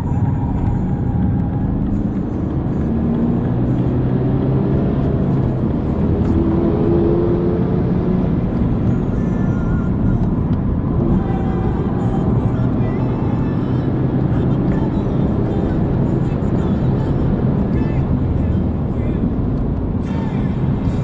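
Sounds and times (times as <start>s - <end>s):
race car engine running: 0.0s - 21.0s
road and wind noise: 0.0s - 21.0s.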